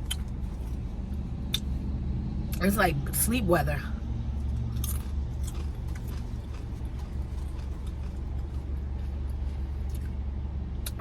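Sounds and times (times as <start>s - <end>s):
vehicle engine idling: 0.0s - 10.8s.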